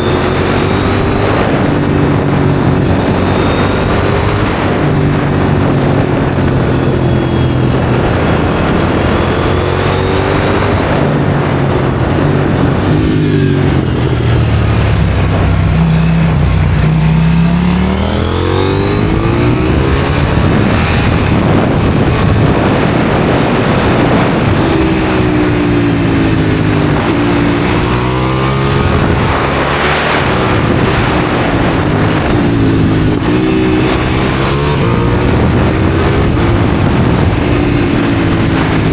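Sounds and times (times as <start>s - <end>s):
motorcycle engine accelerating: 0.0s - 38.9s
wind rushing: 0.0s - 38.9s.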